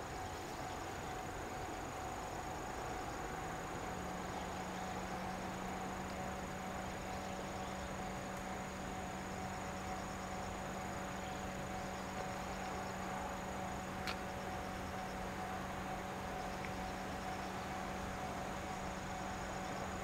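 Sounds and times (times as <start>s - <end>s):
insects chirping: 0.0s - 20.0s
steady low hum: 0.0s - 20.0s.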